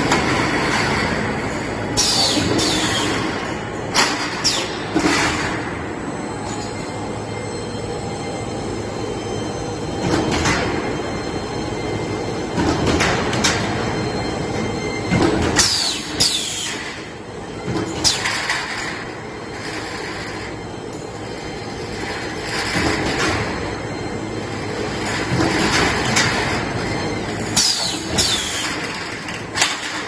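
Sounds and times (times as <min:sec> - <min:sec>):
roll forming machine running: 0:00.0 - 0:30.0
high metal squeals: 0:01.0 - 0:12.6, 0:13.5 - 0:30.0.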